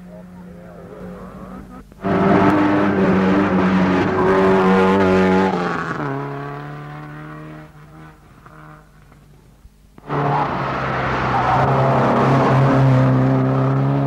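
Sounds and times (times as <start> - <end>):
rally car passing at full throttle: 0.0 - 9.1, 10.0 - 14.0.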